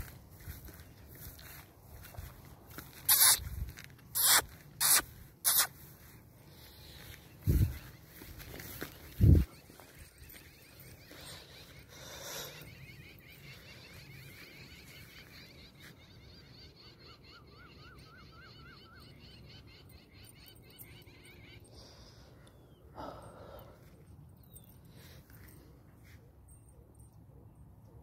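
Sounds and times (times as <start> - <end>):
birds chirping: 0.0 - 25.7.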